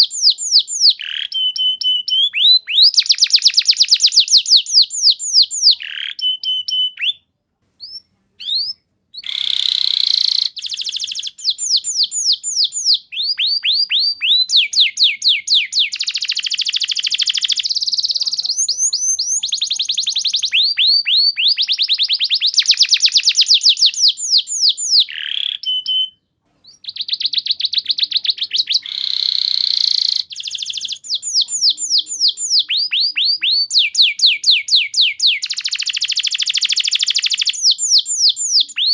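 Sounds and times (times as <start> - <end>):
canary singing trills: 0.0 - 7.2, 7.8 - 38.9.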